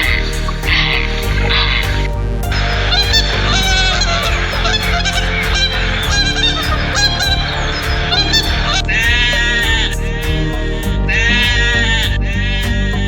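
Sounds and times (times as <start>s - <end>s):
background music: 0.0s - 13.0s
birds honking: 0.0s - 13.0s.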